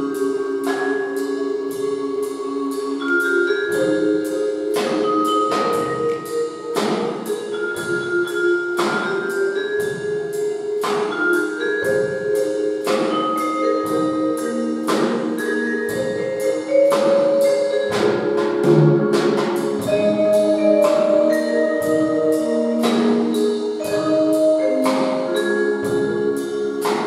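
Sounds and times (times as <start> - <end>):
drum kit steady beat: 0.0 - 27.0
marimba and mallet percussion: 0.0 - 27.0.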